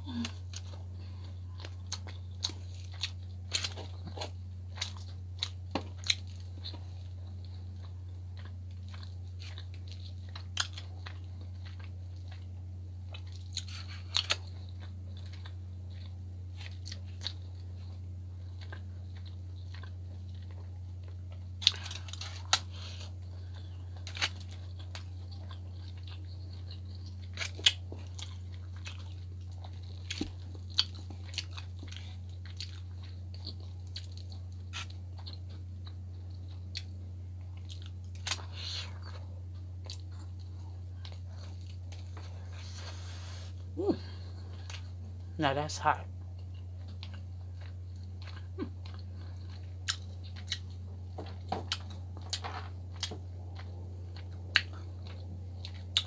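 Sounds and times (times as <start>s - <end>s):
chewing and biting food: 0.0s - 56.0s
steady low hum: 0.0s - 56.0s.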